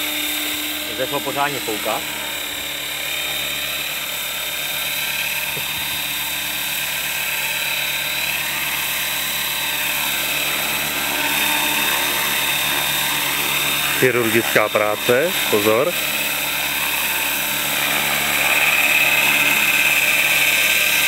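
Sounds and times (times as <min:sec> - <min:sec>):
rc helicopter motor whine: 0:00.0 - 0:21.0.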